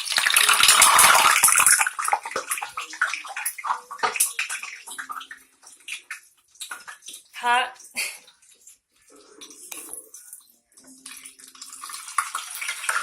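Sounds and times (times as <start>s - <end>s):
hot oil sizzling and popping: 0.0s - 13.0s.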